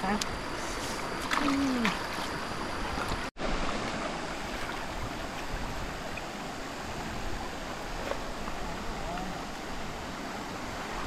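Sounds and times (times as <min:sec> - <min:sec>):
flowing stream water: 0:00.0 - 0:11.0.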